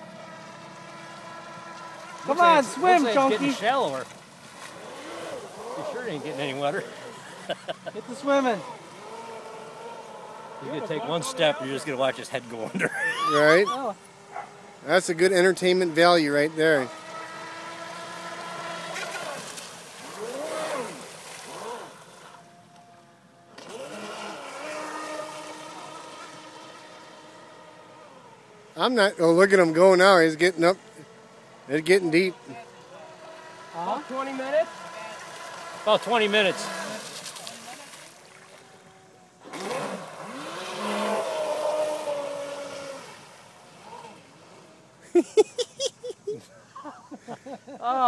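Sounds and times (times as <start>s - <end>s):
radio-controlled boat motor whining: 0.0s - 45.1s.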